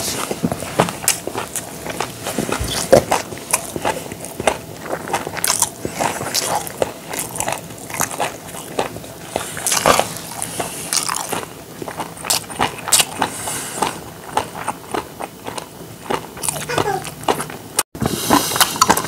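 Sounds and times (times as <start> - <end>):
man chewing food: 0.0 - 19.0.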